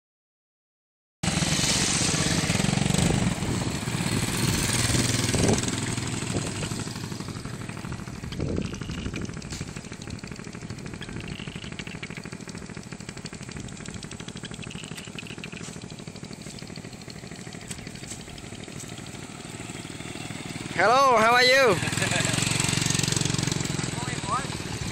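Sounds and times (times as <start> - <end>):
motorbike engine running: 1.3 - 24.9.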